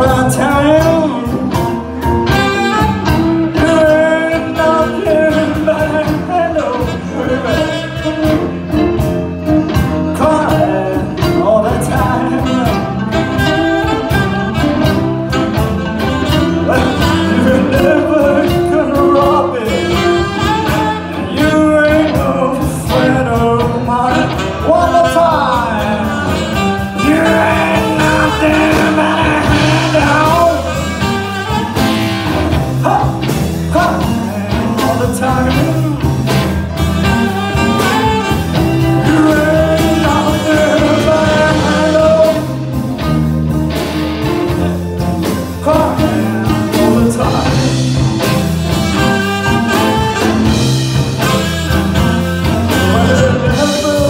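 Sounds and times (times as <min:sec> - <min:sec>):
live band playing: 0:00.0 - 0:54.0
man singing lead: 0:00.0 - 0:54.0.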